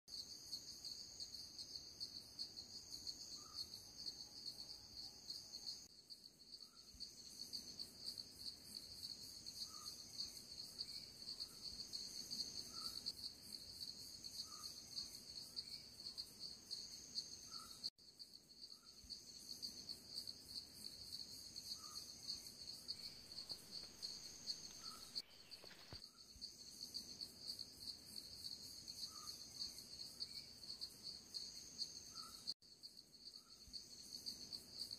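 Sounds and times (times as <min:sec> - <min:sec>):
insects chirring: 0:00.1 - 0:34.9.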